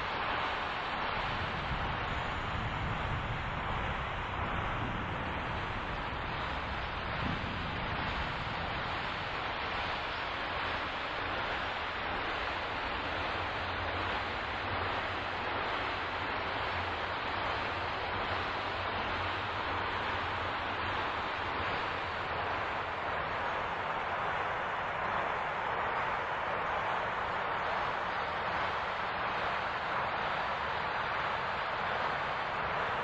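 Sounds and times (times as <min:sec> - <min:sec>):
strong wind and rain: 0:00.0 - 0:33.0.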